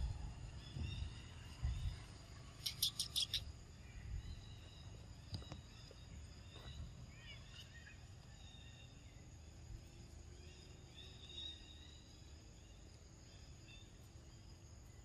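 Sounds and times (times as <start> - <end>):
faint high chirps: 0.0 - 15.0.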